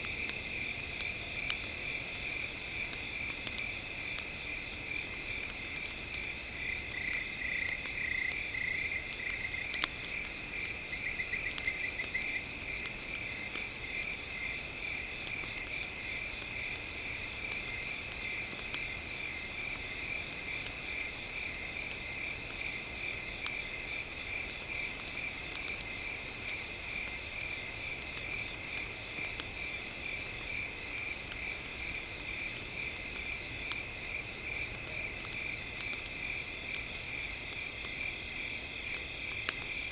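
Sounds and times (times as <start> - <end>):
campfire crackling: 0.0 - 39.9
insects chirping: 0.0 - 39.9.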